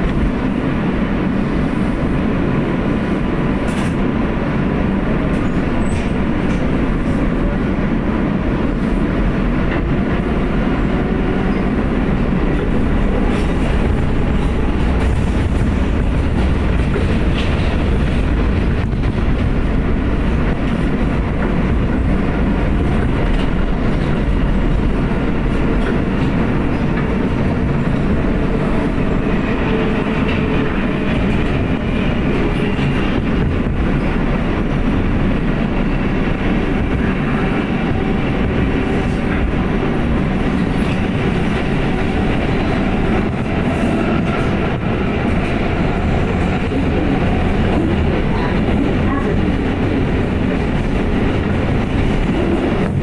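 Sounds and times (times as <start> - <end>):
subway wheels rumbling on rails: 0.0 - 53.0.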